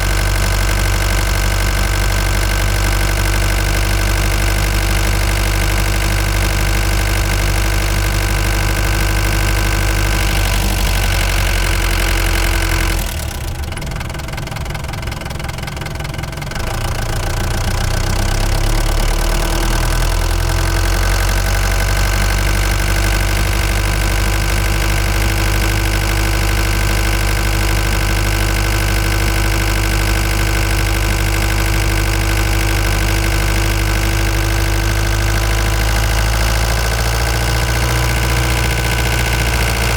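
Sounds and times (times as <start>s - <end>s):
van engine droning: 0.0s - 39.9s.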